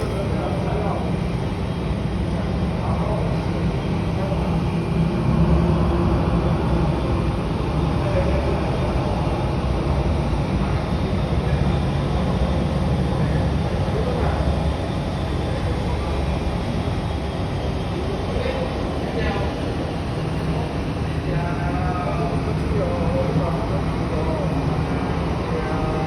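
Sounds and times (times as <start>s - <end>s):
airliner low rumble: 0.0s - 26.0s.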